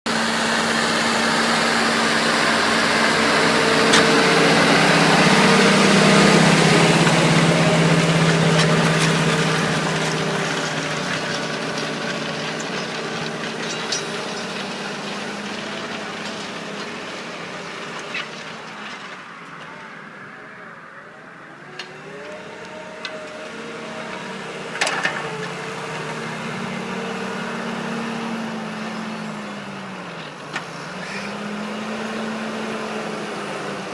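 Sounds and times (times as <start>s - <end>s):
tractor diesel engine under load: 0.0s - 33.9s.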